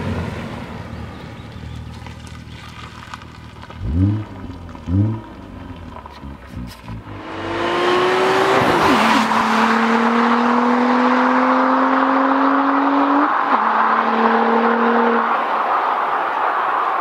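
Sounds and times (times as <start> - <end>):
car engine accelerating hard: 3.3 - 17.0.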